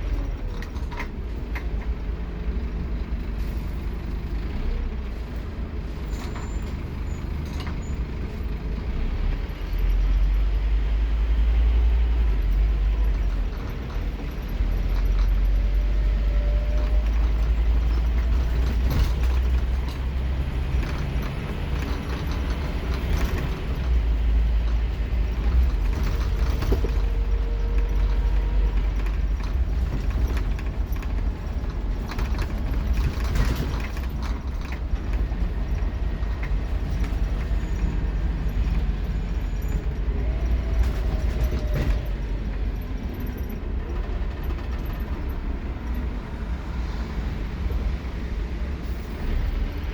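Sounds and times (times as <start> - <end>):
bus engine drone: 0.0 - 49.9
rattles and clicks of bus fittings: 0.0 - 49.9.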